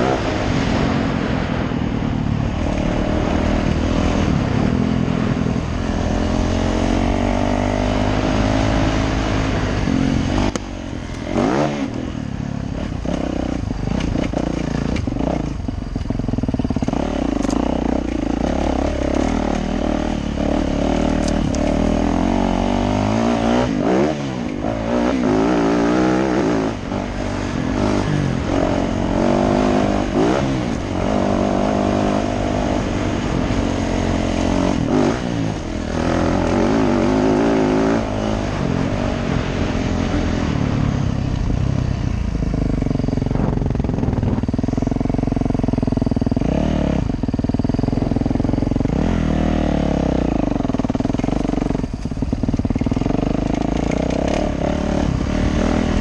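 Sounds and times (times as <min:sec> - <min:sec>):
dirt bike engine revving: 0:00.0 - 0:41.6, 0:42.4 - 0:56.0
wind: 0:00.0 - 0:56.0.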